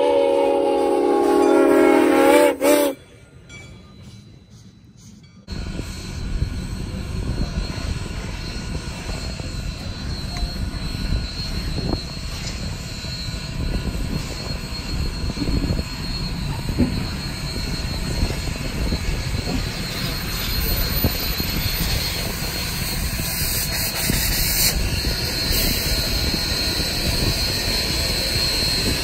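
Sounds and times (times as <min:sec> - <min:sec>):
rail car rolling past rumbling: 0:00.0 - 0:29.0.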